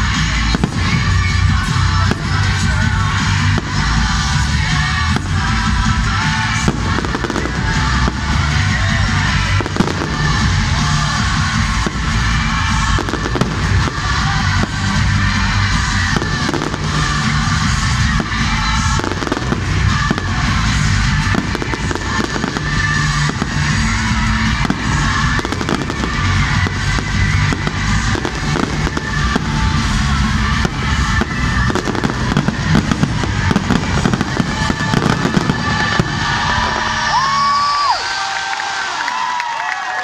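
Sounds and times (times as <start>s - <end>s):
fireworks bursting: 0.0s - 39.2s
loud music: 0.0s - 40.0s.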